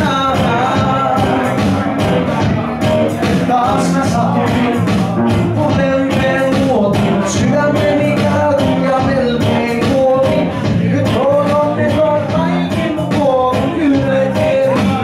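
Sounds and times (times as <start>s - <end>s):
electric bass: 0.0s - 15.0s
electric guitar: 0.0s - 15.0s
live rock song: 0.0s - 15.0s
man singing: 0.0s - 15.0s.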